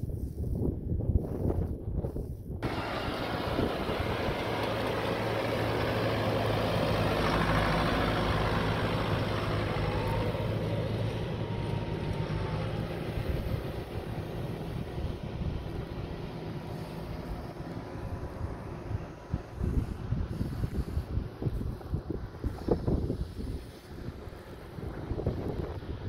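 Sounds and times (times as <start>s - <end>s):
tractor diesel engine running: 2.6s - 26.0s.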